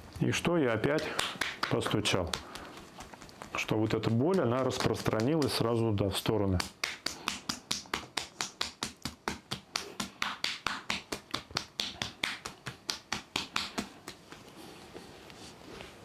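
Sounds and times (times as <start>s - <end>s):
hand tapping on body: 0.2s - 5.8s, 6.5s - 14.6s.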